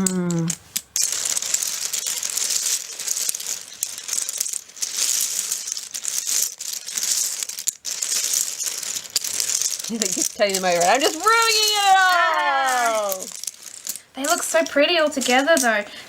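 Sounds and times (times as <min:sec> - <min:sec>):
small plastic pieces clattering: 0:00.0 - 0:16.0.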